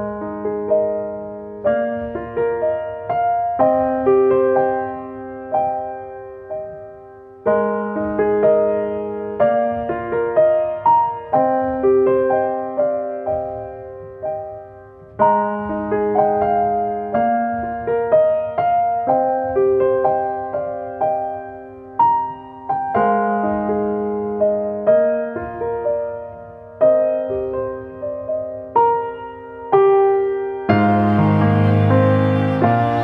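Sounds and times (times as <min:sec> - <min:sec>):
slow solo piano music: 0:00.0 - 0:33.0.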